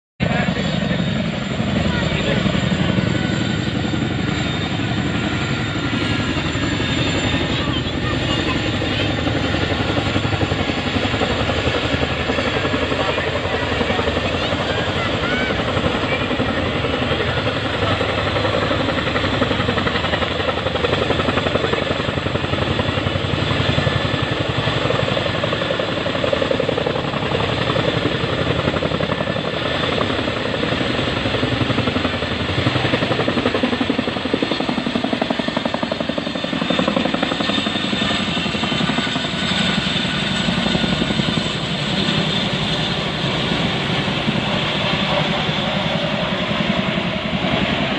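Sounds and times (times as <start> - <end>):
helicopter engine whine: 0.2 - 47.9
helicopter rotors chopping: 0.2 - 47.9.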